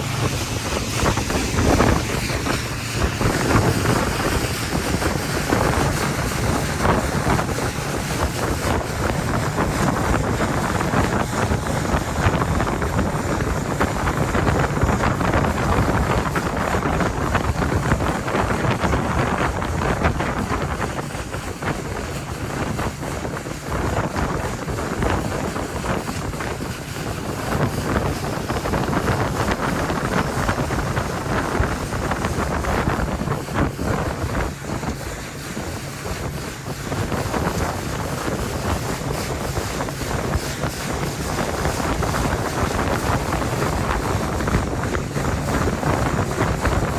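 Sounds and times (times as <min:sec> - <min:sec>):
boat motor running: 0:00.0 - 0:46.9
wind buffeting microphone: 0:00.0 - 0:46.9.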